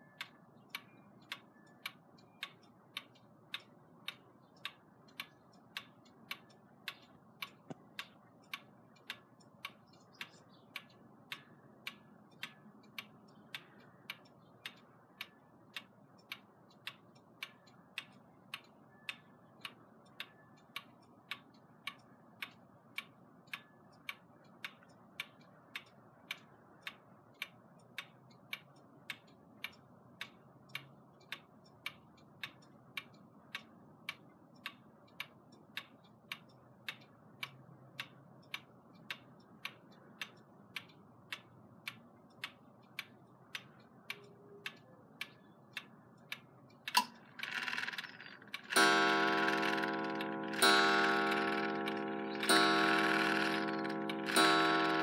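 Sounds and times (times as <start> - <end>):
pendulum clock ticking: 0.0 - 55.0.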